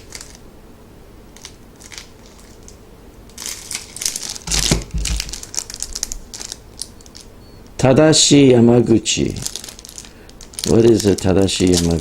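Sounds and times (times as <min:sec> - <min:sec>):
plastic packaging crinkling: 0:00.0 - 0:00.4, 0:01.3 - 0:07.4, 0:08.8 - 0:12.0.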